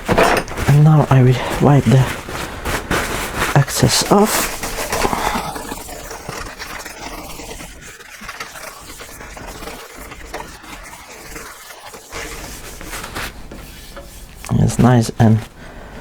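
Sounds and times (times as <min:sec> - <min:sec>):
cloth rubbing on metal table: 0:00.0 - 0:15.5.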